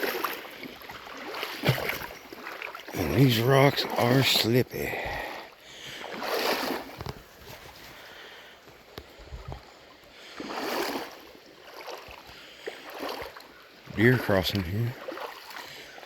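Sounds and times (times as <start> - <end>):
legs wading through water: 0.0 - 16.0
stream running: 0.0 - 16.0.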